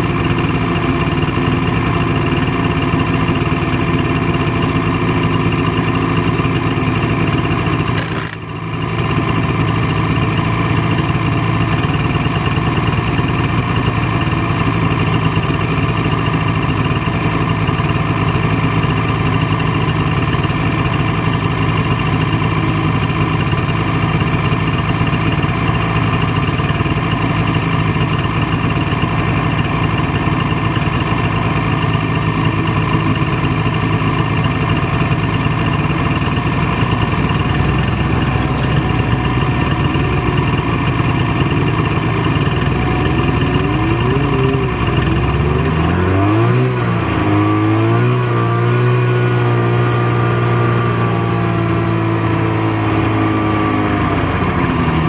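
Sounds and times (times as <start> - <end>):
snowmobile engine: 0.0 - 55.0.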